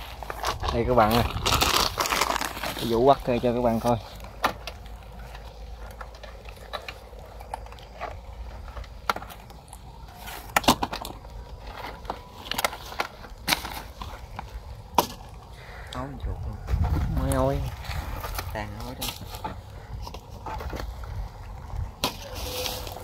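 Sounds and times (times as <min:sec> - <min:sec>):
plastic sack rustling: 0:00.0 - 0:15.8, 0:16.6 - 0:23.0.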